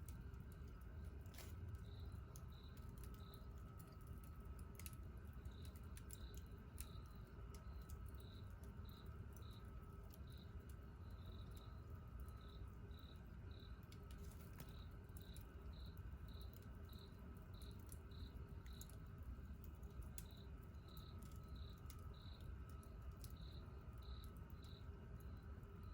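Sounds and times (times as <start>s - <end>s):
campfire crackling: 0.0s - 25.9s
cricket chirping: 1.8s - 3.8s, 4.8s - 19.0s, 19.8s - 25.9s.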